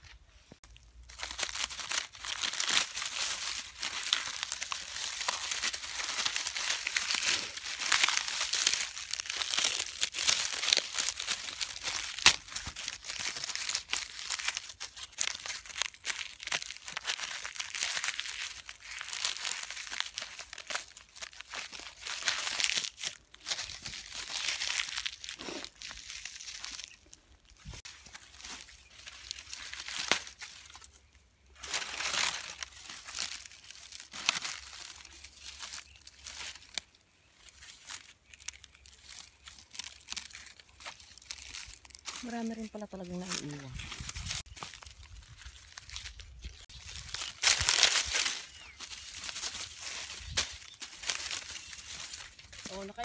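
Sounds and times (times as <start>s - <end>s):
dry corn husks rustling: 0.0s - 53.0s.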